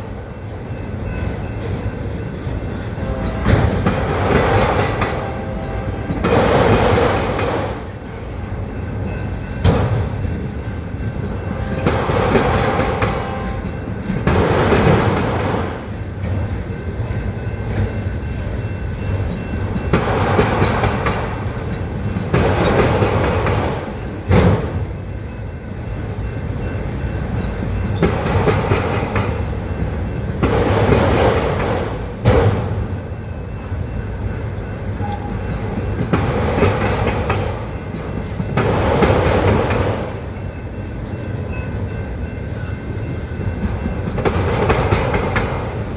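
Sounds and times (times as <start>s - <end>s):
wheels clicking over rail joints: 0.0s - 41.9s, 42.5s - 45.9s
freight train rumble and rattle: 0.0s - 45.9s.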